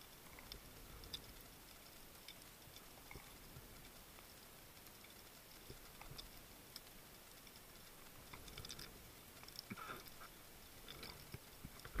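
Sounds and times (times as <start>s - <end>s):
underwater clicking and crackling: 0.0s - 12.0s.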